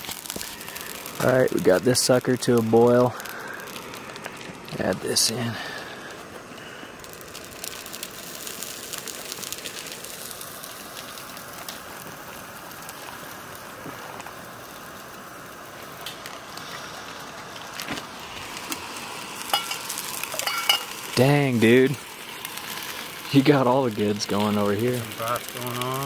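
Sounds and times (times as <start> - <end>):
boiling water pouring into pouch: 0.0 - 26.0
gas stove hissing: 0.0 - 26.0.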